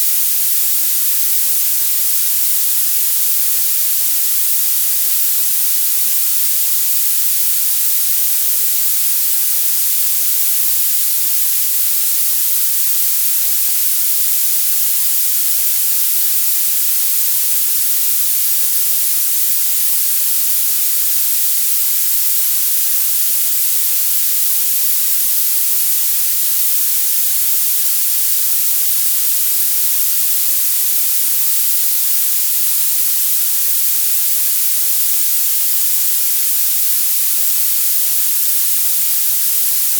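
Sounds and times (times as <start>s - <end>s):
high-pitched synthetic hiss: 0.0s - 39.9s.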